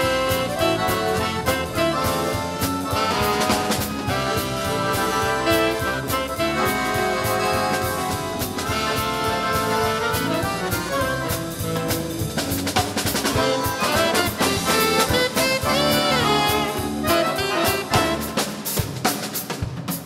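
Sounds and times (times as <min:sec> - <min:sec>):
accordion ensemble playing swing jazz: 0:00.0 - 0:19.5.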